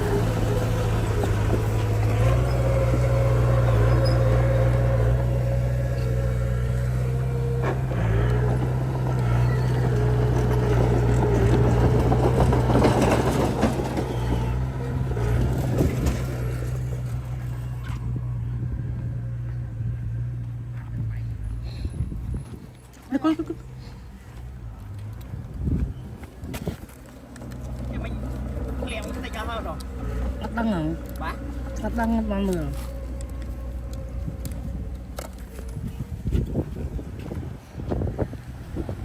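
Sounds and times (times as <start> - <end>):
heavy diesel engine under load: 0.0 - 39.0.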